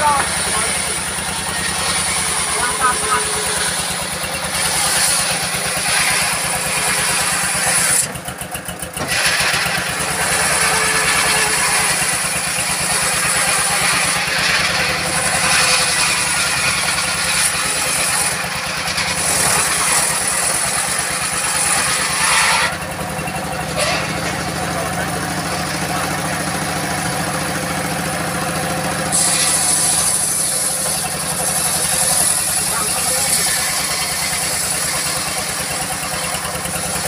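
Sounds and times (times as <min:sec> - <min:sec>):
saw blade ripping log: 0:00.0 - 0:08.4, 0:09.0 - 0:22.9, 0:23.7 - 0:37.0
diesel engine running: 0:00.0 - 0:37.0.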